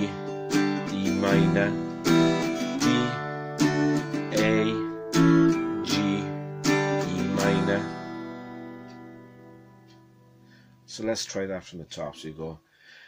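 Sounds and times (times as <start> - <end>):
guitar chords picked: 0.0 - 11.1.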